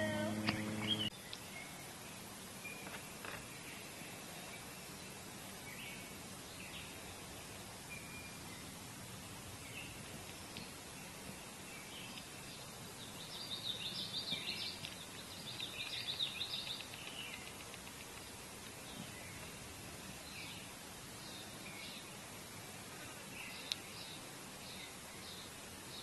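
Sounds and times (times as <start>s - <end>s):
small birds chirping: 0.0s - 26.0s
steady outdoor hiss: 0.0s - 26.0s.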